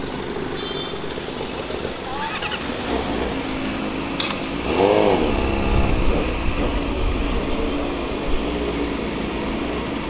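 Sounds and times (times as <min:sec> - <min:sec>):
motorcycle engine revving: 0:00.0 - 0:10.0
road and wind noise: 0:00.0 - 0:10.0.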